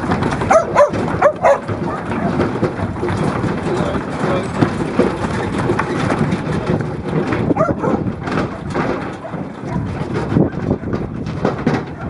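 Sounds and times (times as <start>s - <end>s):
knocks and clatter of sheep unloading: 0.0s - 12.0s.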